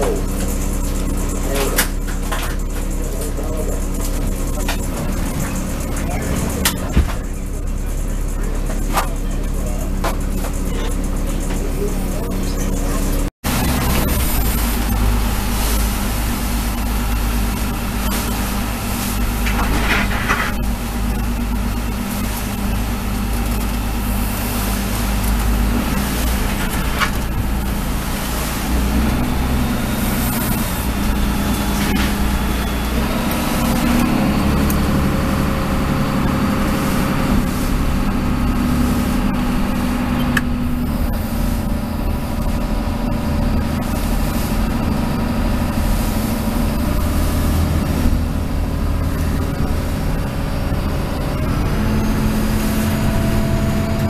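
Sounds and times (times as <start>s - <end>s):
boat diesel engine running: 0.0s - 54.0s.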